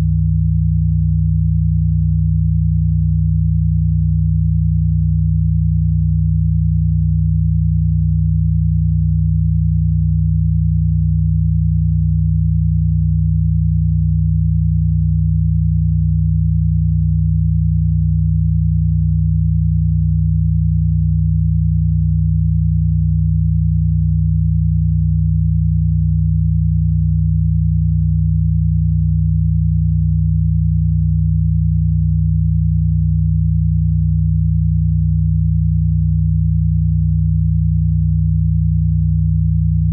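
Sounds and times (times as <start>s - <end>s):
low electronic sine tone drone: 0.0s - 39.9s.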